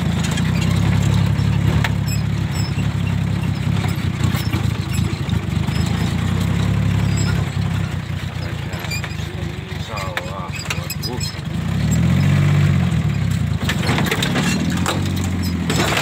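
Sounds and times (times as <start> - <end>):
bodywork knocking and rattling: 0.0 - 16.0
diesel engine running: 0.0 - 16.0.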